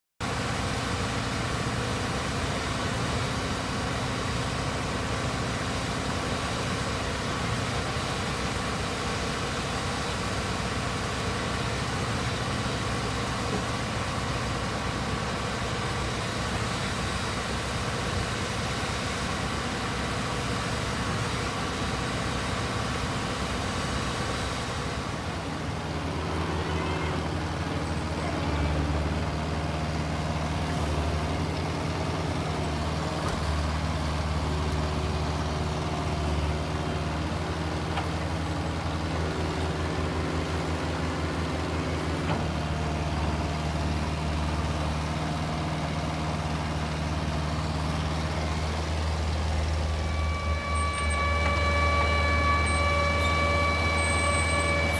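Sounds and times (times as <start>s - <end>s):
diesel engine and hydraulics running: 0.2s - 54.9s.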